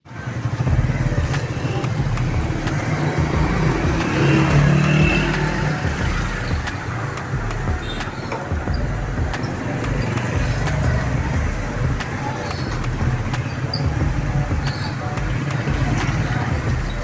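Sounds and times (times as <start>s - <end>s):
vehicle engines running: 0.0s - 17.0s.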